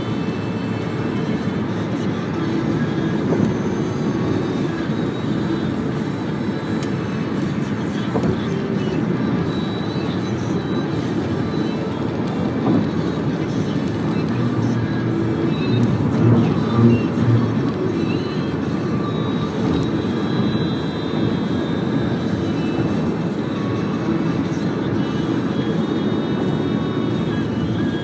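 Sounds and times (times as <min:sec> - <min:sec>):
car cabin road and engine noise: 0:00.0 - 0:28.0.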